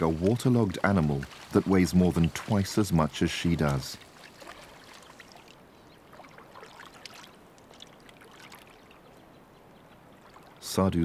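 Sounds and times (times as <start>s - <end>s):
shallow water sloshing and splashing: 0.0s - 10.8s.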